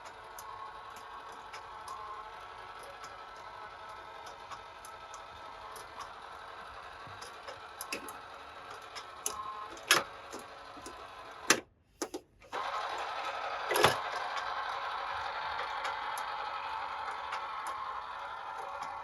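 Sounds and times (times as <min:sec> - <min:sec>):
toy cars and packaging clicking: 0:00.0 - 0:19.0.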